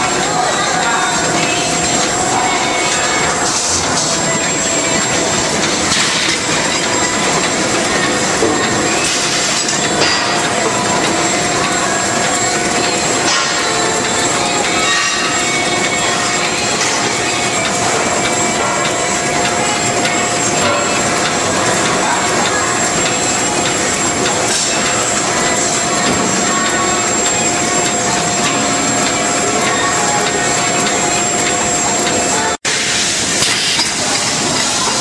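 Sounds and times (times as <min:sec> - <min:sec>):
machine rollers clattering: 0:00.0 - 0:35.0
steady machine whine: 0:00.0 - 0:35.0.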